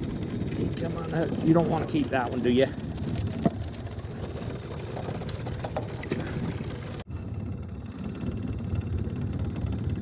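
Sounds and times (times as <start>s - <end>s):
outboard motor rumbling: 0.0s - 10.0s.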